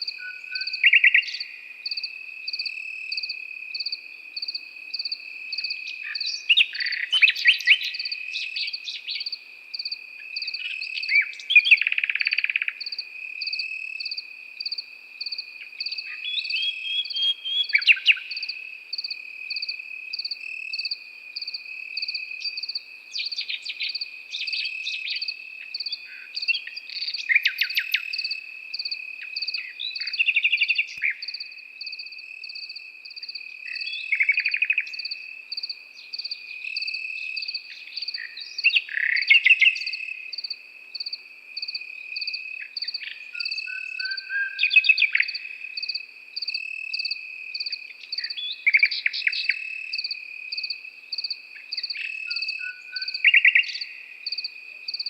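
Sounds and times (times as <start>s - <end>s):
cricket chirping in pulses: 0.0s - 55.0s
cricket trilling: 0.0s - 55.0s
nightingale singing: 0.0s - 55.0s.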